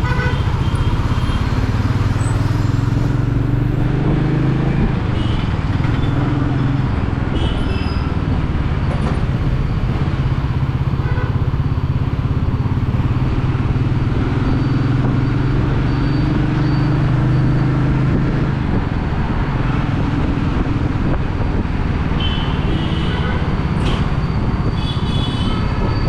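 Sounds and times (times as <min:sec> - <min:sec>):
motorcycle engine cruising: 0:00.0 - 0:22.0
road and wind noise: 0:00.0 - 0:26.0.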